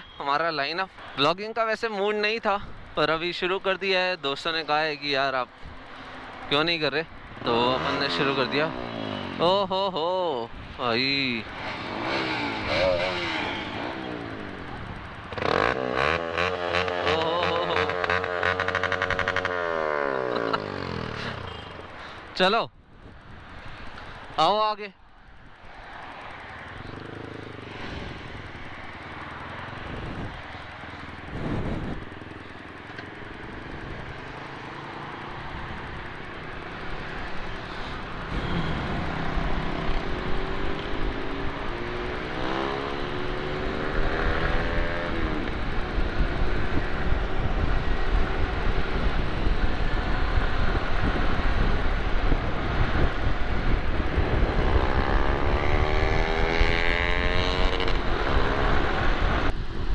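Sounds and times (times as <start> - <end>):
road and wind noise: 0.0 - 59.9
motorcycle engine accelerating: 7.3 - 22.0, 25.5 - 59.9.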